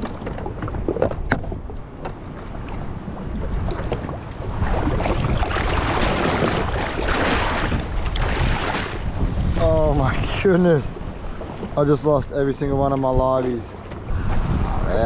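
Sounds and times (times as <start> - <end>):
wind on microphone: 0.0 - 15.0
seawater rushing over deck: 1.6 - 15.0.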